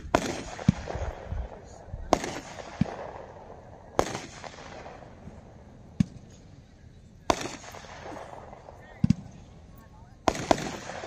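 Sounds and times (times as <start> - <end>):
fireworks bangs with rumble: 0.0 - 6.5, 7.2 - 11.0.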